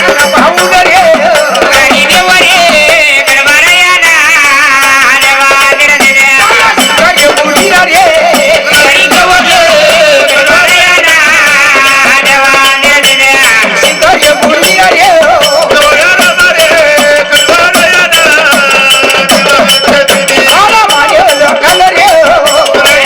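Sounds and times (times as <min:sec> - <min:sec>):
fast rattling percussion: 0:00.0 - 0:23.0
ornamented sung melody: 0:00.0 - 0:23.0.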